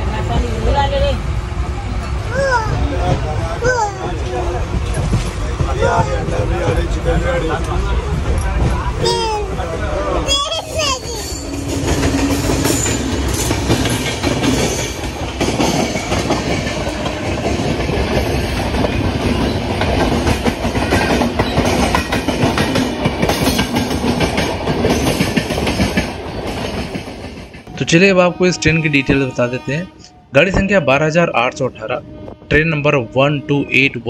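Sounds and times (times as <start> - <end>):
train rushing at speed: 0.0 - 34.0.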